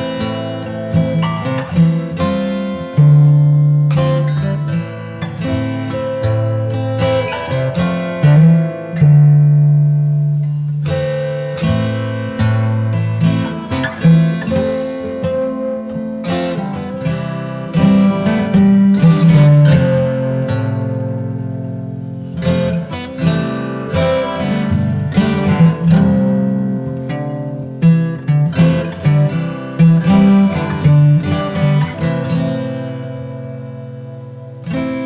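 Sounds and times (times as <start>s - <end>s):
acoustic guitar plucking: 0.0s - 35.0s.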